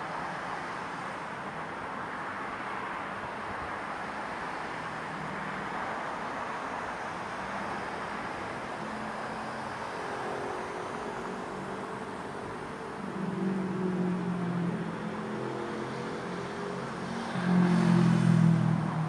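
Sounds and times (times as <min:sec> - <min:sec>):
distant traffic noise: 0:00.0 - 0:19.0.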